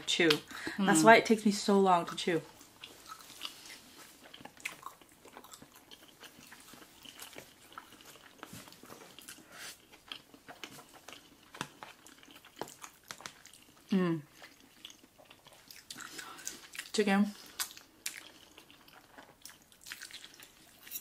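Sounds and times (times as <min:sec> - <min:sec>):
close chewing of spaghetti: 0:02.4 - 0:21.0.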